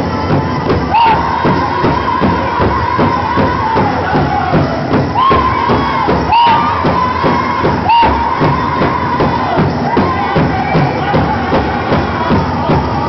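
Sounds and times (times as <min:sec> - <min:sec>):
crowd noise: 0:00.0 - 0:13.0
drum group singing: 0:00.0 - 0:13.0
steady drumbeat: 0:00.0 - 0:13.0.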